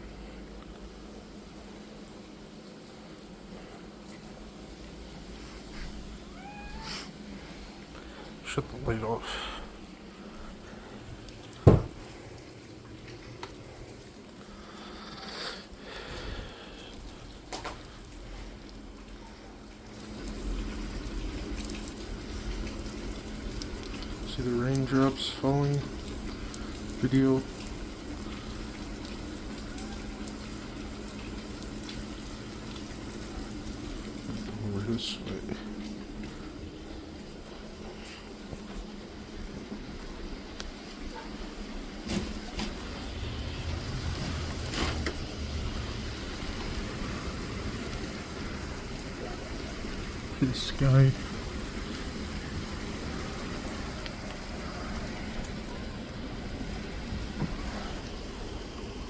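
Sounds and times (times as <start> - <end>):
steady rain hiss: 0.0 - 59.0
drips ticking: 7.4 - 15.0, 15.6 - 40.8, 42.4 - 59.0.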